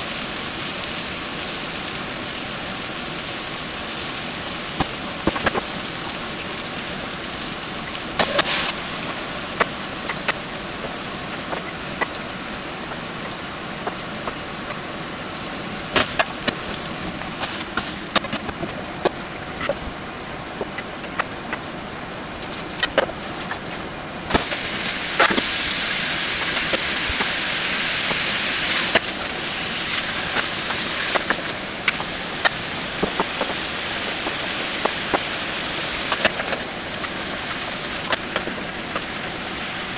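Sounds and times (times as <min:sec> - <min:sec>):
hot oil sizzling and popping: 0:00.0 - 0:19.8, 0:24.3 - 0:39.9.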